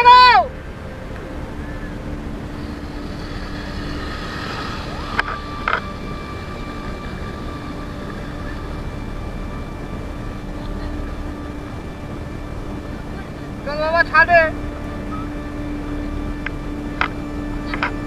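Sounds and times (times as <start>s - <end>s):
small engine running: 1.2s - 18.0s.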